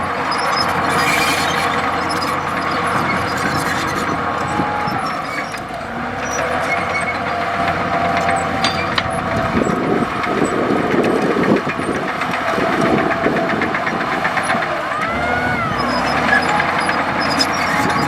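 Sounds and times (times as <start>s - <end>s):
bulldozer diesel engine running: 0.0s - 18.0s
dense rapid clatter: 0.4s - 18.0s.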